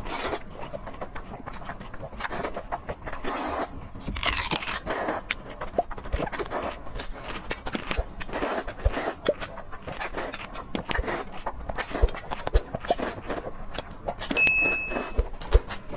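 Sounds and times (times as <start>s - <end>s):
slurping and chewing noodles: 0.0s - 15.9s.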